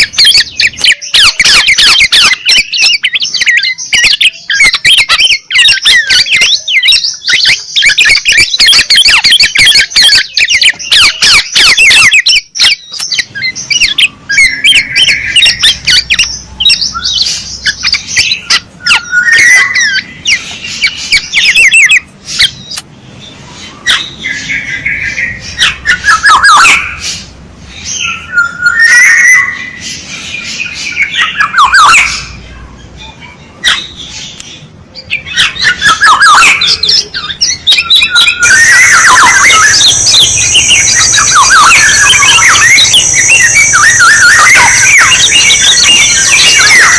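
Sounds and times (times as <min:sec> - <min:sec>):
oriole calls: 0:00.0 - 0:22.8, 0:23.7 - 0:46.9.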